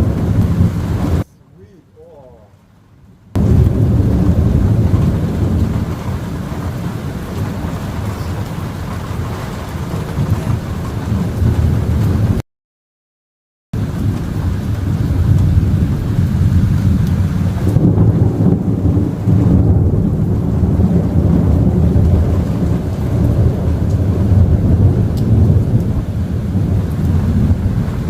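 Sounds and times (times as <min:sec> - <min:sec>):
low rumble of thunder: 0:00.0 - 0:01.3, 0:03.3 - 0:12.4, 0:13.8 - 0:28.0
rain: 0:00.0 - 0:12.4, 0:13.8 - 0:28.0.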